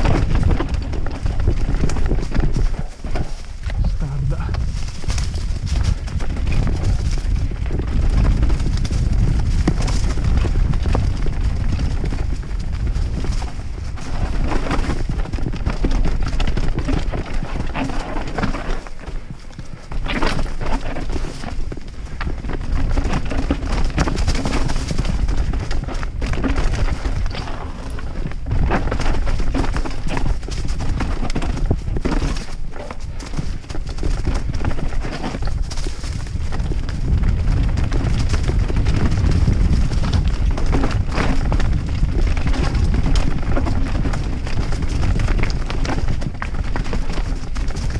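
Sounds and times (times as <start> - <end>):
low wind rumble: 0.0 - 47.9
tyres crunching on stones: 0.0 - 47.9.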